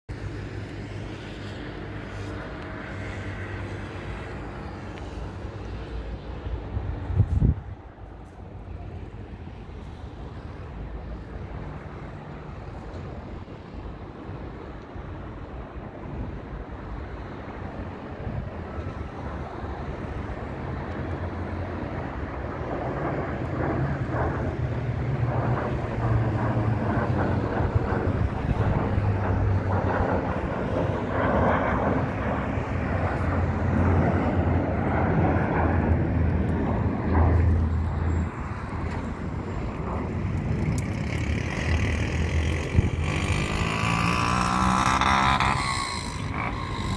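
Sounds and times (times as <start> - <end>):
jet engines roaring overhead: 0.1 - 46.9.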